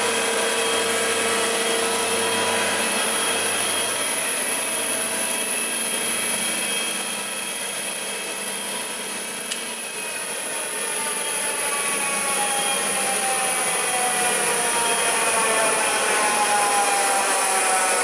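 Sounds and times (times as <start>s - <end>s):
woodworking machine whirring: 0.0s - 18.0s.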